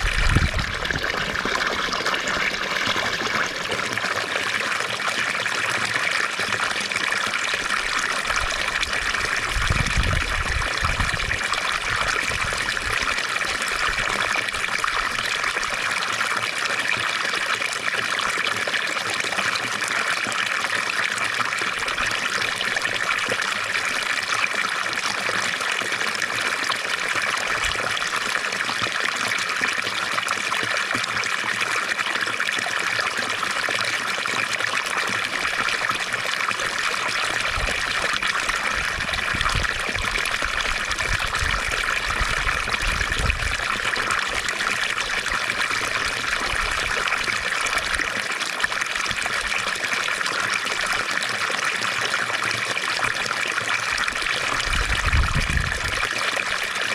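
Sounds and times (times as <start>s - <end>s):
fountain water splashing: 0.0s - 56.9s.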